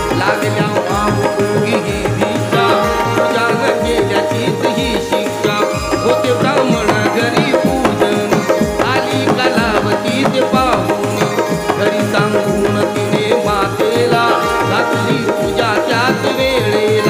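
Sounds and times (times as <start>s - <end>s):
hand drum beat: 0.0s - 17.0s
wavering melody line: 0.0s - 17.0s.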